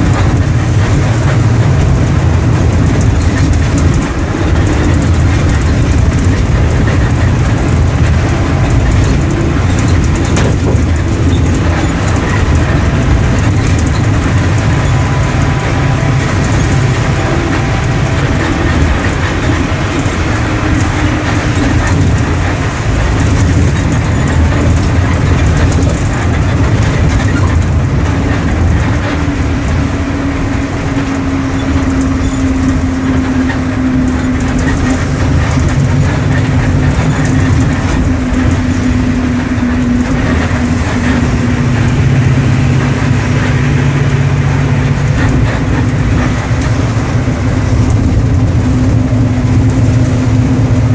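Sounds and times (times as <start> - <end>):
bus engine drone with rattles: 0.0 - 50.9.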